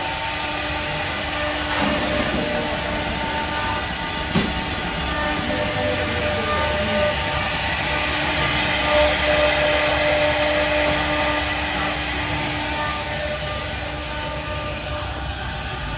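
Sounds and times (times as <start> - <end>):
machine hiss: 0.0 - 15.9
machine whine: 0.0 - 15.9.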